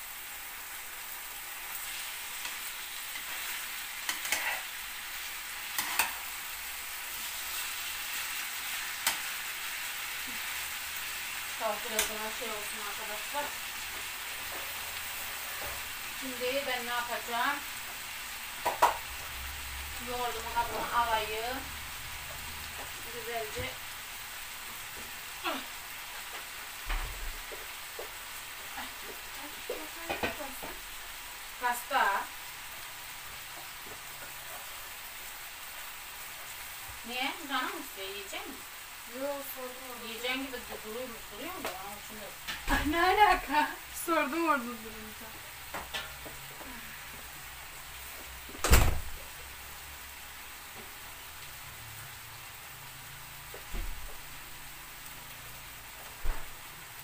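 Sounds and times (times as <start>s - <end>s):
potatoes sizzling in hot oil: 0.0s - 57.0s.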